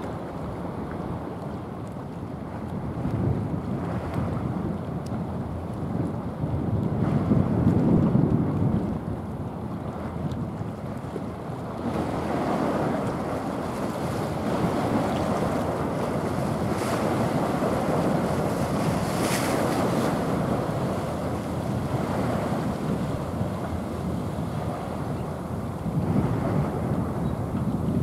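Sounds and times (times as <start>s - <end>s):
choppy sea: 0.0s - 28.0s
wind buffeting microphone: 0.0s - 28.0s.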